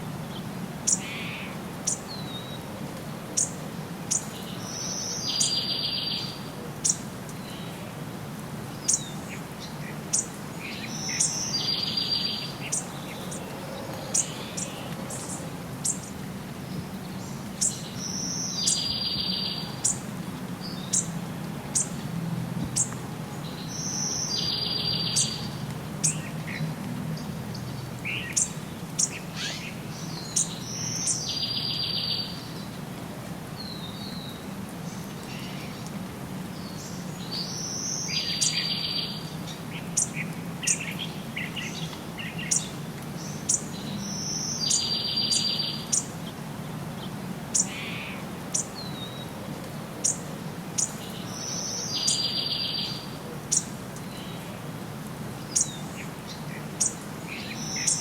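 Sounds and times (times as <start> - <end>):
birds chirping: 0.2 - 2.7, 3.4 - 7.8, 8.8 - 32.8, 36.6 - 49.4, 50.0 - 54.7, 55.4 - 58.0.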